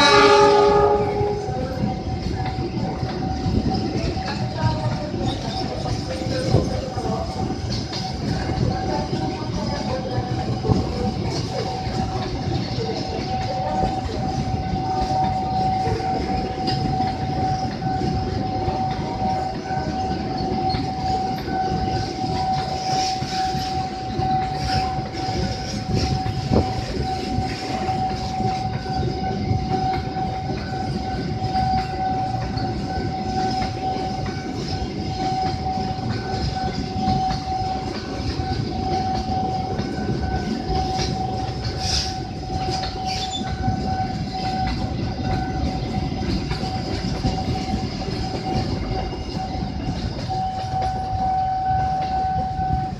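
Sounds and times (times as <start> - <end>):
freight train rumbling past: 0.0 - 52.9
steady high tone: 0.0 - 52.9.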